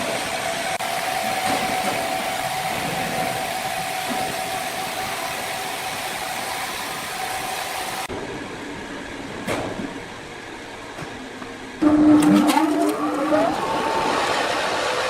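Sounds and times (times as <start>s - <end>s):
sawmill machinery running: 0.0s - 9.1s, 10.0s - 15.0s.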